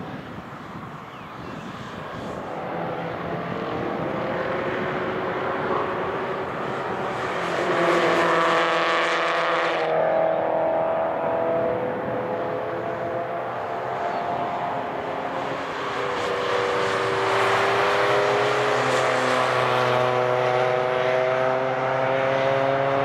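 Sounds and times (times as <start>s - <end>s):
racing car engines passing: 0.1s - 23.0s.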